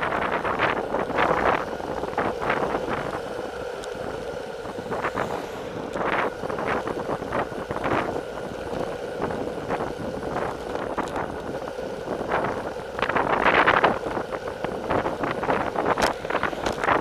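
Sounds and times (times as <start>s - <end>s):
tyres rolling on asphalt: 0.0s - 17.0s
wind rushing over microphone: 0.0s - 17.0s.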